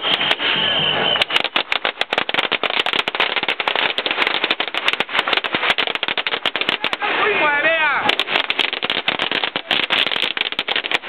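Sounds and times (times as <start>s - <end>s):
firecrackers banging: 0.0s - 11.0s.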